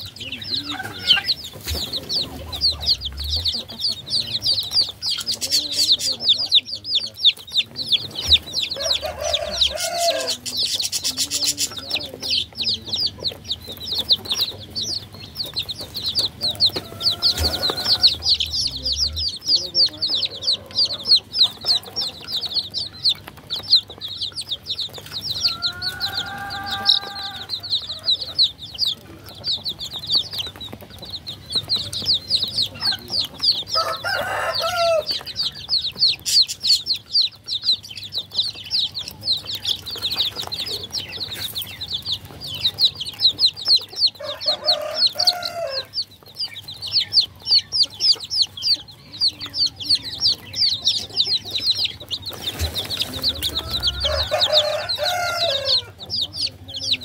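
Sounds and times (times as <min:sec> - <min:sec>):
baby chicks peeping: 0:00.0 - 0:57.0.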